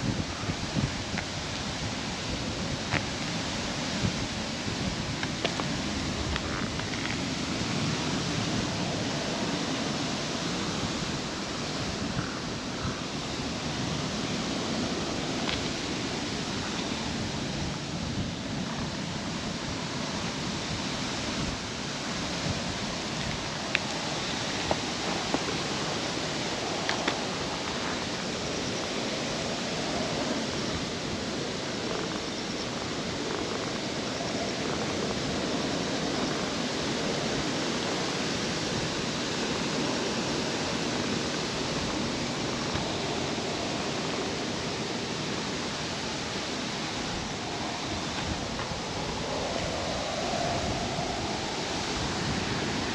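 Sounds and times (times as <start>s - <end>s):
outdoor background hiss: 0.0s - 52.9s.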